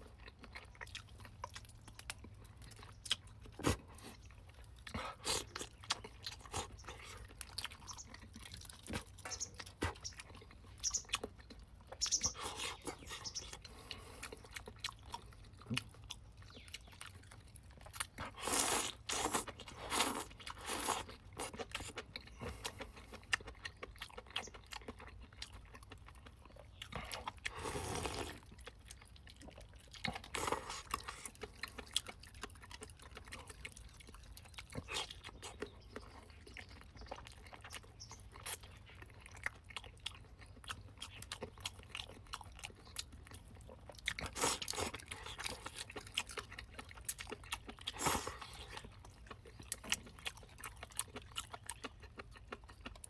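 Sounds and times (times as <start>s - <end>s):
person chewing and crunching: 0.0s - 53.0s.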